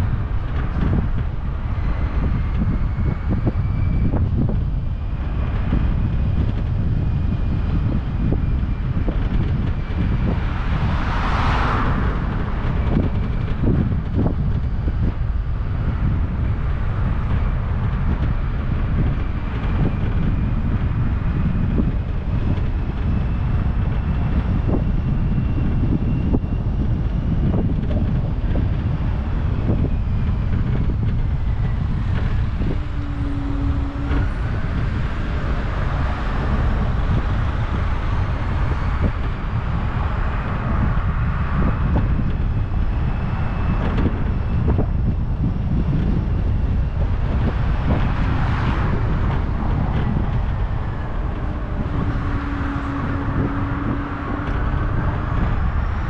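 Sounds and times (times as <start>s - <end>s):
road and tyre rumble: 0.0s - 56.0s
wind buffeting microphone: 0.0s - 56.0s.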